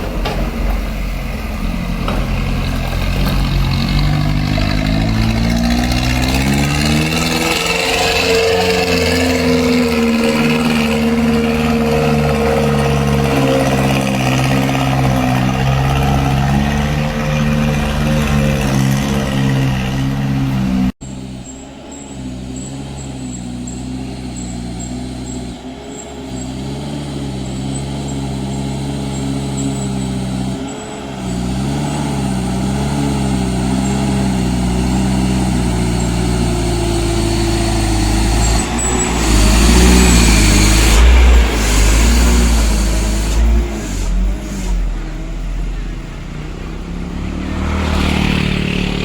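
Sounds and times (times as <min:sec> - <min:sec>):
diesel truck engine labouring: 0:00.0 - 0:49.0.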